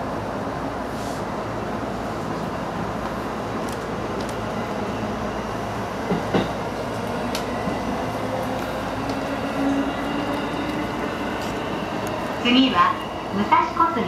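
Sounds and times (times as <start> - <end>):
train wheels rumbling on rails: 1.0 - 14.0.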